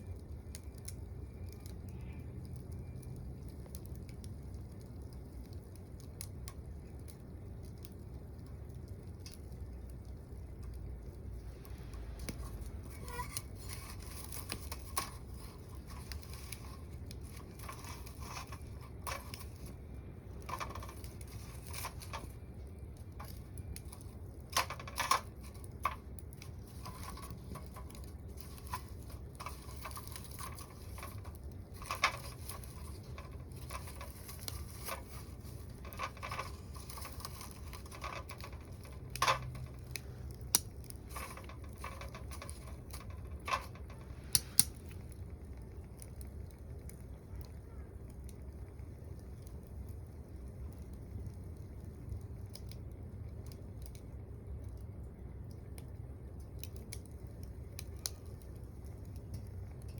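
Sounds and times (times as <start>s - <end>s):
low steady stove rumble: 0.0s - 59.9s
wood fire crackling: 0.0s - 59.9s.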